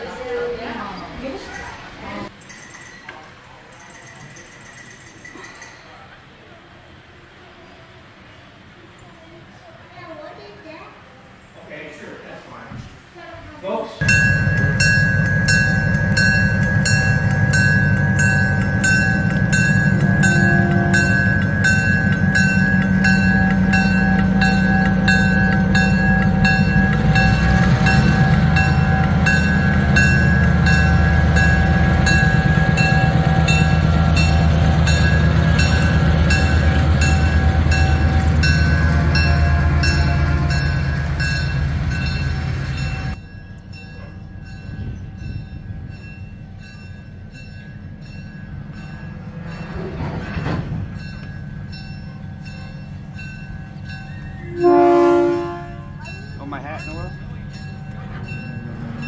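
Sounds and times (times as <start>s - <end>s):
locomotive bell ringing: 0.0s - 8.1s, 14.0s - 59.0s
diesel locomotive engine: 0.0s - 59.0s.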